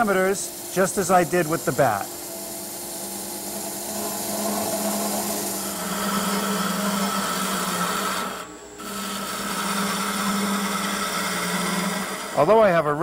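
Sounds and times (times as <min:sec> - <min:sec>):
tool scraping spinning wood: 0:00.0 - 0:13.0
wood lathe humming: 0:00.0 - 0:13.0.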